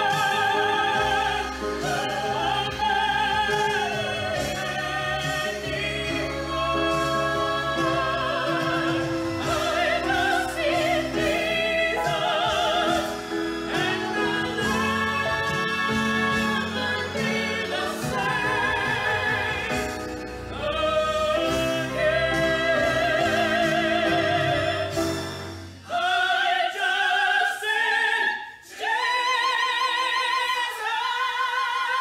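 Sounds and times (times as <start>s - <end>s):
woman and man singing: 0.0s - 25.2s, 25.9s - 32.0s
grand piano: 0.0s - 26.4s.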